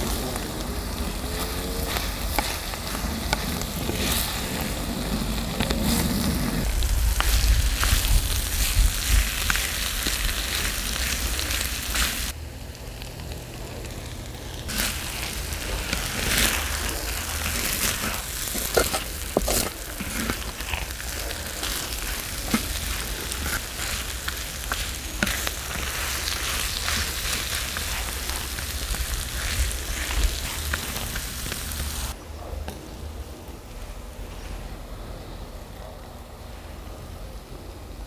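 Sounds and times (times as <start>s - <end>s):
food sizzling on a griddle: 0.0s - 12.4s, 14.0s - 32.2s.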